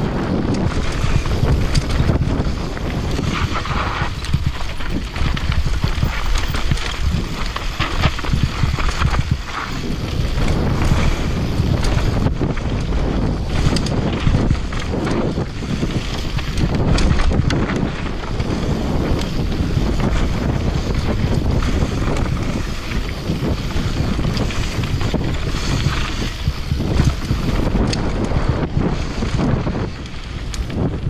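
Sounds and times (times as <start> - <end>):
bike knocks and rattles: 0.0 - 31.0
tyres rolling over dirt and rocks: 0.0 - 31.0
wind rumble on microphone: 0.0 - 31.0.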